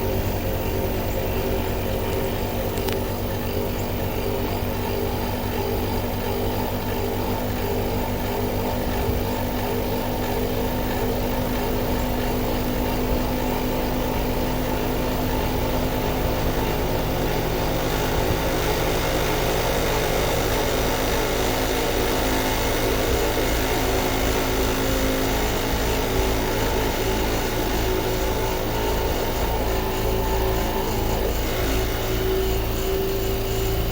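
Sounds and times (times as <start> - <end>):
compressor humming: 0.0 - 33.9
fan noise: 0.0 - 33.9.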